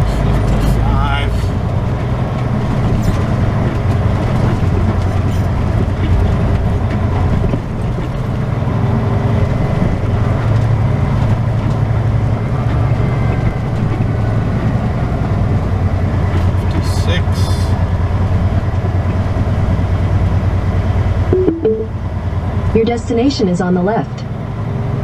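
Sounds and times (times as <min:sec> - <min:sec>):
diesel truck engine running: 0:00.0 - 0:25.0
road noise inside cab: 0:00.0 - 0:25.0.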